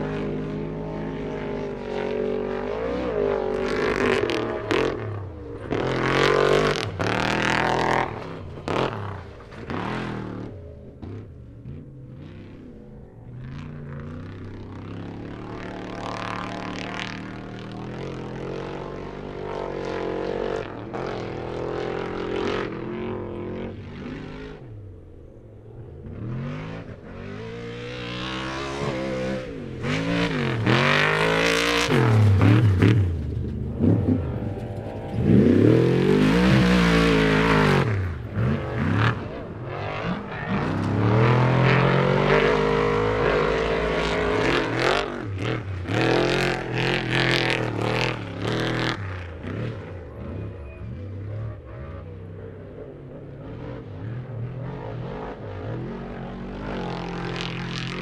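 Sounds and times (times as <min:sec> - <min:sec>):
truck engines revving: 0:00.0 - 0:58.0.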